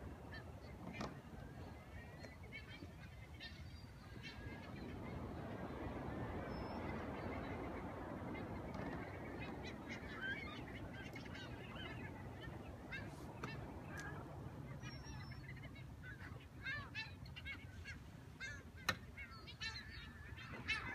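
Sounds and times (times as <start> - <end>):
low rush of sea: 0.0 - 20.9
seabirds honking calls: 0.2 - 20.9.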